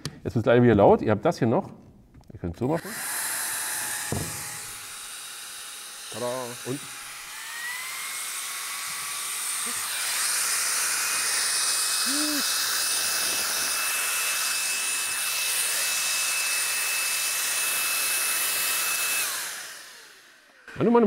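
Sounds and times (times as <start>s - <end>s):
leaf blower whining: 2.8s - 21.0s.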